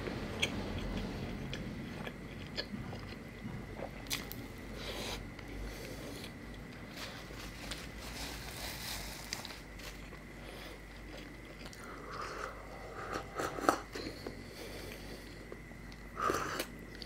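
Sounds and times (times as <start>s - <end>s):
man chewing wet food: 0.0s - 7.9s, 9.2s - 17.0s.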